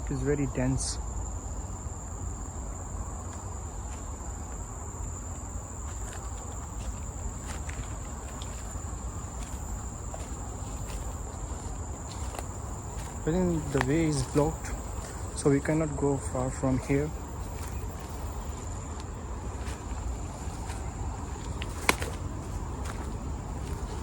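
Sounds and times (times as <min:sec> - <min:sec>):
insects high-pitched calling: 0:00.0 - 0:24.0.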